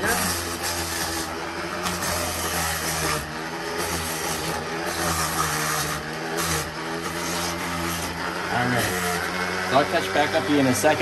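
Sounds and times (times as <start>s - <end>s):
electric grinder motor hum: 0.0s - 11.0s
sanding pad hissing on concrete: 0.0s - 11.0s.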